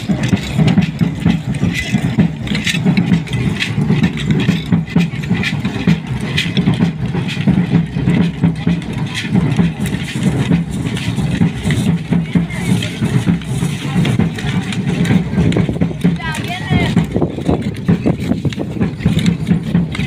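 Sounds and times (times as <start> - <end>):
pulsing beat: 0.0 - 20.0
rattles clattering: 0.0 - 20.0.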